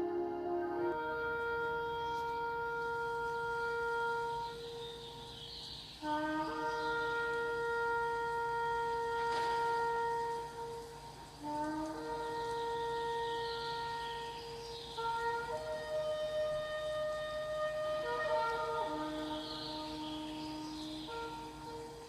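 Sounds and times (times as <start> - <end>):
ram's horn blasts: 0.0 - 5.4, 6.0 - 22.0.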